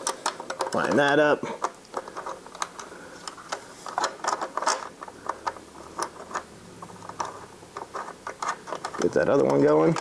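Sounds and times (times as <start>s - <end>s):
metal parts clicking and tapping: 0.0s - 10.0s.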